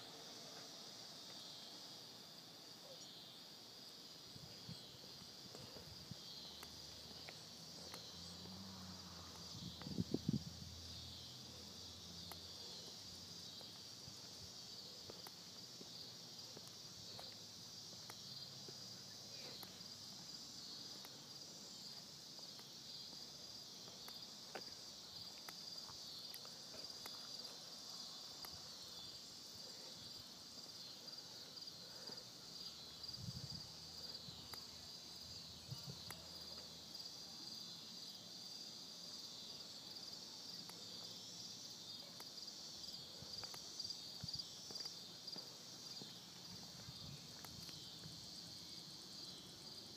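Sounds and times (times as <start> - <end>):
high-pitched insect chorus: 0.0 - 49.9.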